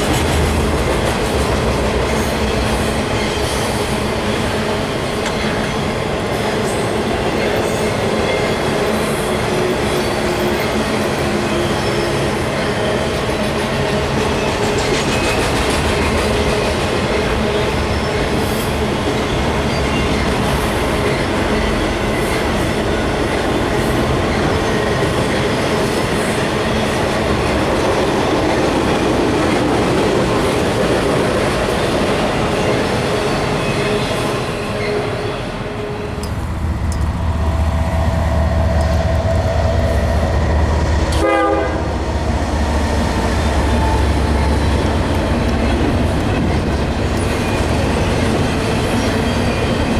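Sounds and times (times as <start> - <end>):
train cars clacking over rail joints: 0.0 - 37.6, 42.2 - 49.9.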